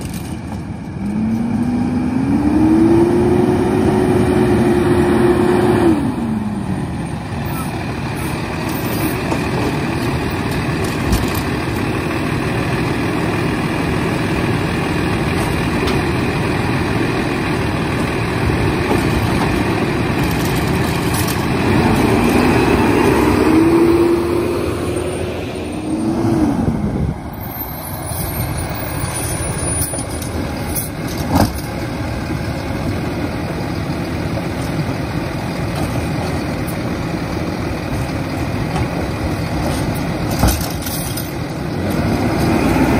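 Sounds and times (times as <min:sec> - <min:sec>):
garbage truck diesel engine: 0:00.0 - 0:42.9.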